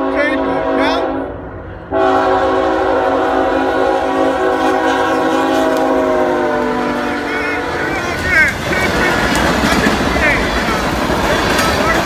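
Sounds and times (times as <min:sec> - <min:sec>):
locomotive air horn: 0:00.0 - 0:12.0
train rumbling: 0:00.0 - 0:12.0.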